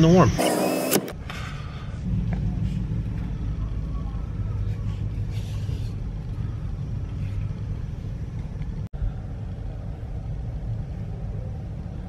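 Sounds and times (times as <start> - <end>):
car engine idling: 1.2 - 12.0.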